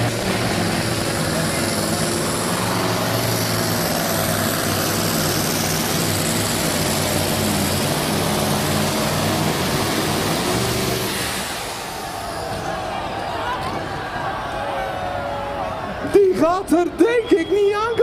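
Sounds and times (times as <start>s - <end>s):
diesel truck engine under load: 0.0s - 14.6s.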